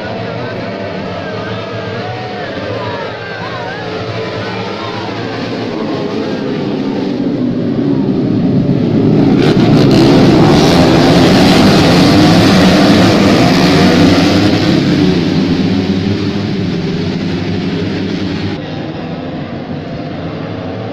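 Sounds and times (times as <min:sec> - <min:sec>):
racing motorcycles passing by: 0:00.0 - 0:20.9.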